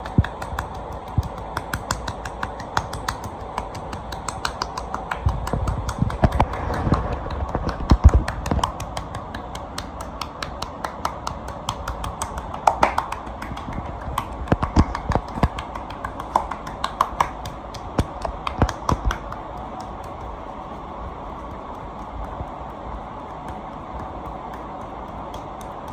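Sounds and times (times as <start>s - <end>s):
hands tapping on skin: 0.0s - 25.9s.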